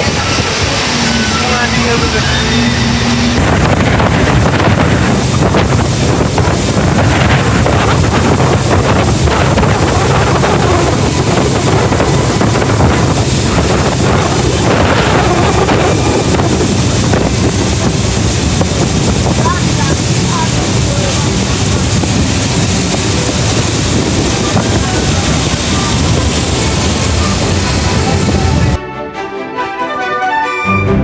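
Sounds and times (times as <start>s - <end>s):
boat motor running: 0.0s - 28.8s
wind buffeting microphone: 0.0s - 28.8s.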